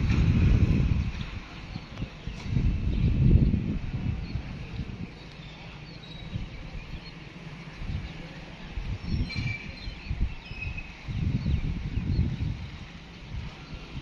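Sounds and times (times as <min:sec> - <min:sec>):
small birds chirping: 0:01.1 - 0:14.0.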